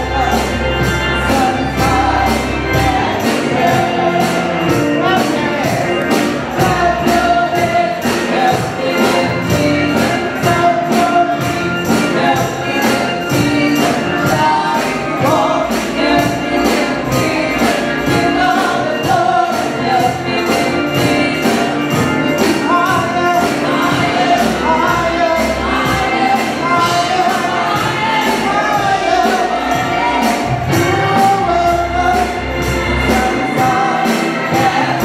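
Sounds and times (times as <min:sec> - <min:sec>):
tambourine beat: 0:00.0 - 0:35.0
women singing gospel: 0:00.0 - 0:35.0.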